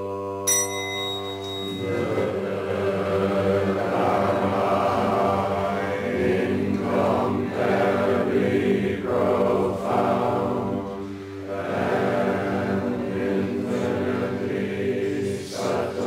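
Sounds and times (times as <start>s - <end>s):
monotone chanting voices: 0.0s - 16.0s.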